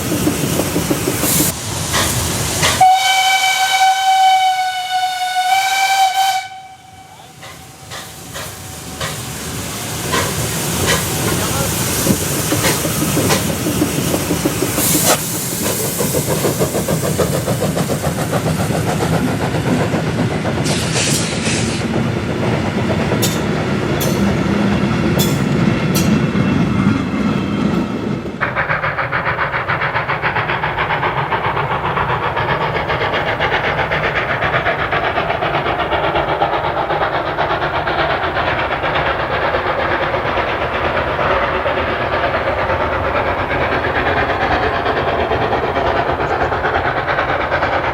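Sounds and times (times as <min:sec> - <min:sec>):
steam hiss: 0:00.0 - 0:24.4, 0:28.4 - 0:47.9.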